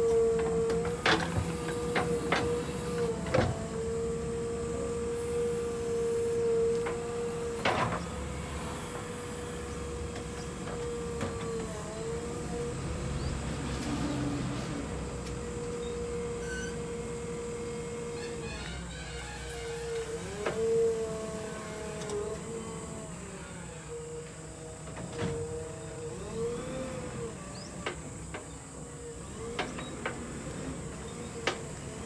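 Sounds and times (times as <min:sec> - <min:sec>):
backhoe engine and hydraulics whine: 0:00.0 - 0:32.0.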